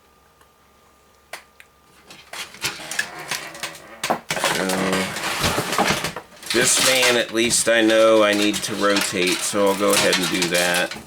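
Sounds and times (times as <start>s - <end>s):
plastic and metal parts clattering: 2.0s - 11.0s.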